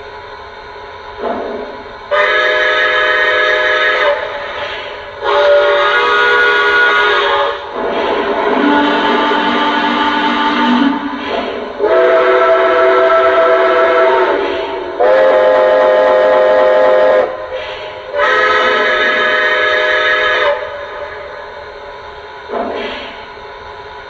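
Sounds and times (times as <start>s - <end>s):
model train steam whistle: 2.1s - 21.8s.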